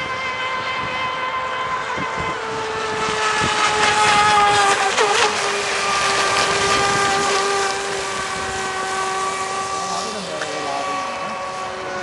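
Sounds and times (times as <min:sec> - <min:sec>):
rc boat motor whining: 0:00.0 - 0:12.0.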